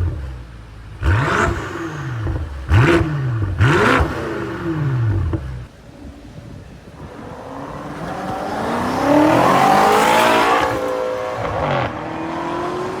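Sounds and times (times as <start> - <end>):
car engine revving: 1.0 - 5.8, 7.0 - 13.0.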